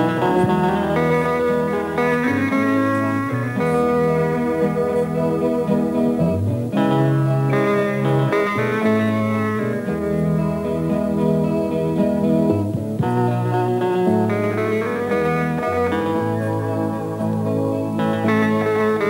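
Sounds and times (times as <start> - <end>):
instrumental guitar music: 0.0 - 19.0.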